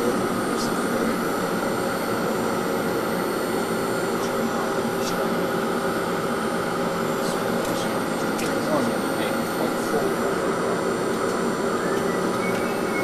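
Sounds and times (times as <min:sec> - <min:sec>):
gas turbines droning: 0:00.0 - 0:13.0.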